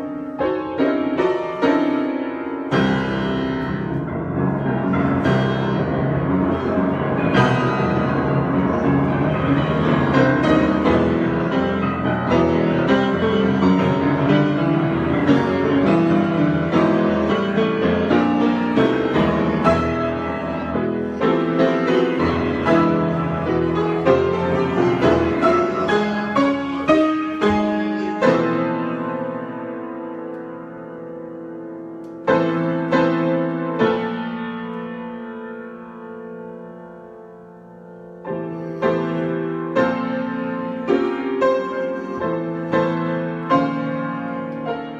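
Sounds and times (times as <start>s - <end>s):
piano improvising: 0.0s - 44.9s.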